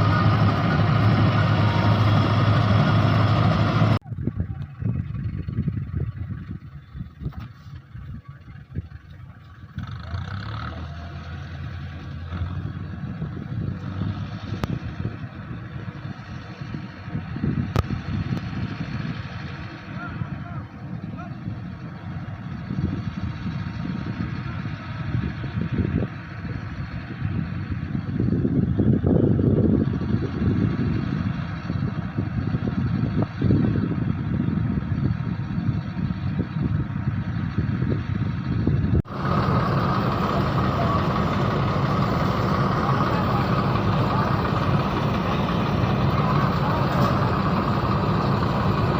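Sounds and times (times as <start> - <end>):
combine harvester engine rumble: 0.0 - 48.9.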